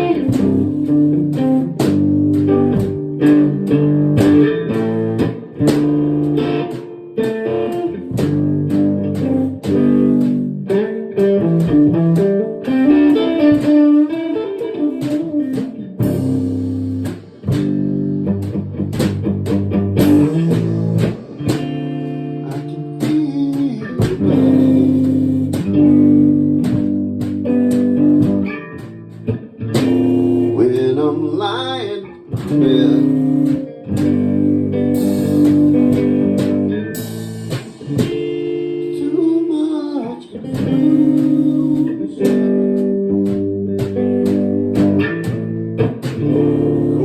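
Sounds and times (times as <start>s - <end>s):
band playing instrumental: 0.0s - 47.0s
bass guitar: 0.0s - 47.0s
lead guitar: 0.0s - 47.0s.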